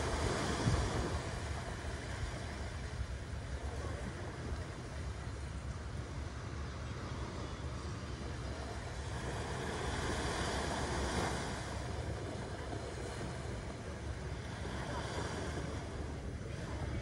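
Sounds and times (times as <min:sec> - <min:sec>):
waves breaking on a beach: 0:00.0 - 0:17.0
wind on microphone: 0:00.0 - 0:17.0.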